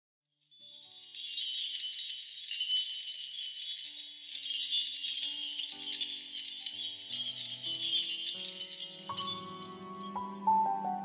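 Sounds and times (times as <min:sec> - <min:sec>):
wind chimes tinkling: 0:00.3 - 0:11.0.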